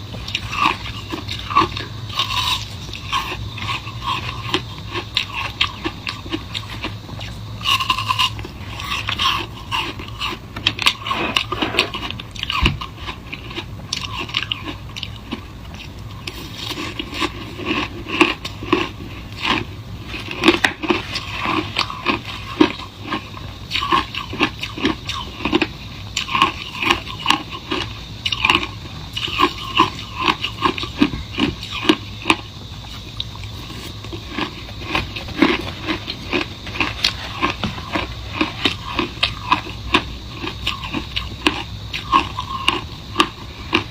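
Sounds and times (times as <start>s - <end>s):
person chewing shaved ice: 0.0s - 43.9s.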